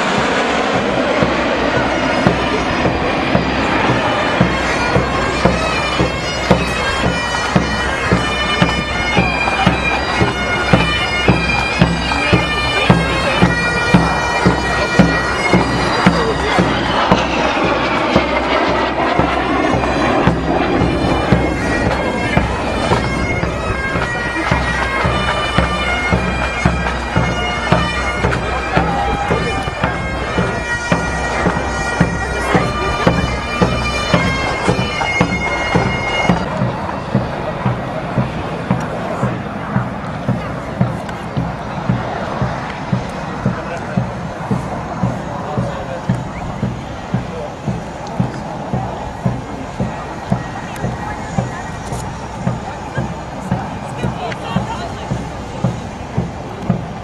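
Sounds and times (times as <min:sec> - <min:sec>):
bagpipes playing a tune: 0:00.0 - 0:57.0
steady drum beat: 0:00.0 - 0:57.0.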